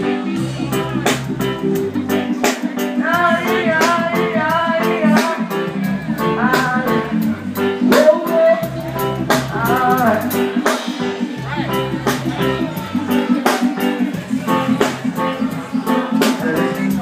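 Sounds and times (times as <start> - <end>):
drum kit beat: 0.0 - 17.0
live band music: 0.0 - 17.0
person singing: 0.0 - 17.0.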